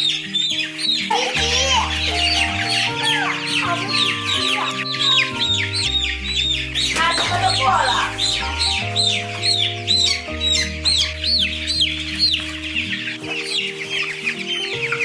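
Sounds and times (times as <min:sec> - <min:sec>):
background music: 0:00.0 - 0:15.0
chicks peeping: 0:00.0 - 0:15.0.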